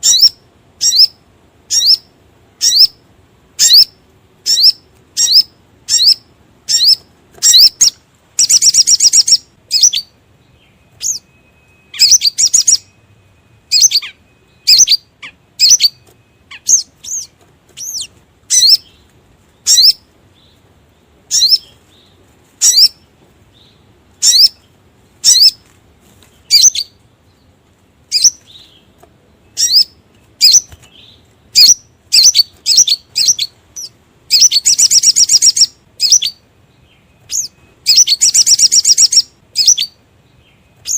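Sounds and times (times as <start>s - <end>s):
high bird chirps: 0.0s - 3.0s, 3.6s - 20.6s, 21.3s - 25.6s, 26.4s - 27.5s, 28.1s - 40.9s.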